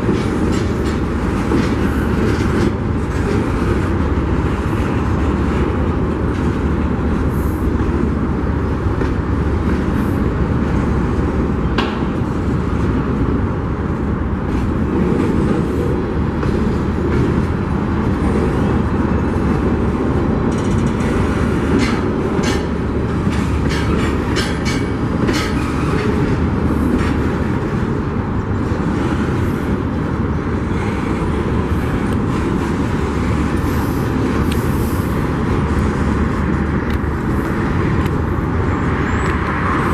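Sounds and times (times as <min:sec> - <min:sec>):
freight train rumbling past: 0:00.0 - 0:39.9
train wheels clicking on rails: 0:00.0 - 0:39.9.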